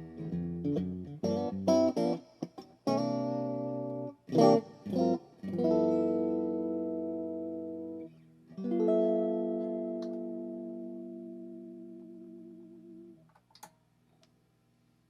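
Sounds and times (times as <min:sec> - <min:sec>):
electric guitar chords: 0:00.0 - 0:13.2.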